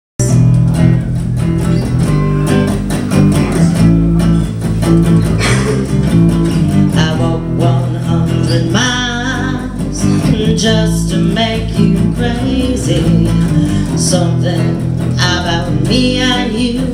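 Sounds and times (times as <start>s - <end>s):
acoustic bass guitar line: 0.2s - 16.9s
strummed guitar: 0.2s - 16.9s.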